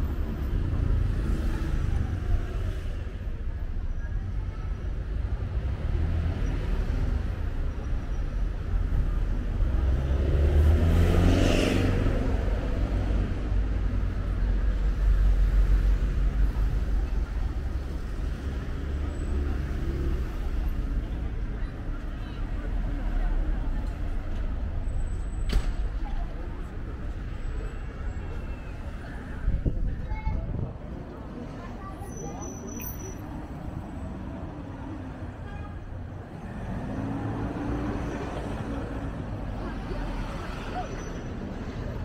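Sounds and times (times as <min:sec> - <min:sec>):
traffic rumble: 0:00.0 - 0:42.0.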